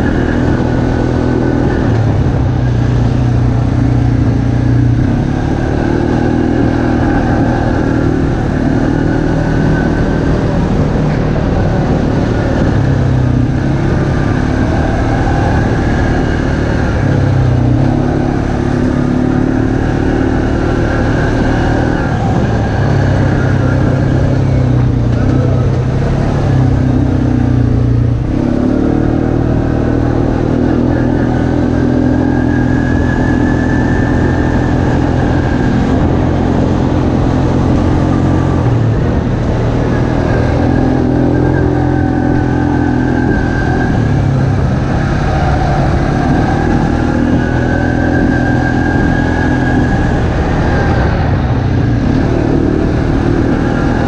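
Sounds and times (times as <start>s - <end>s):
atv engine revving: 0.0s - 54.0s
ride rumble: 0.0s - 54.0s.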